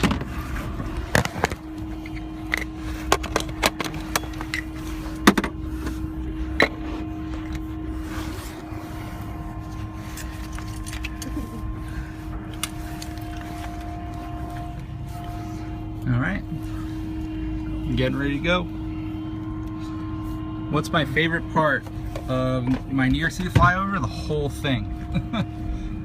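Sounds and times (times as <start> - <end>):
low rumble: 0.0 - 26.0
steady hum: 0.0 - 26.0.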